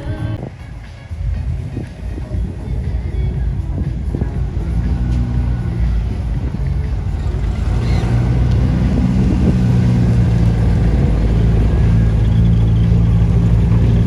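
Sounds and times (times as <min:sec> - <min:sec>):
car engine running at low revs: 0:01.2 - 0:14.0.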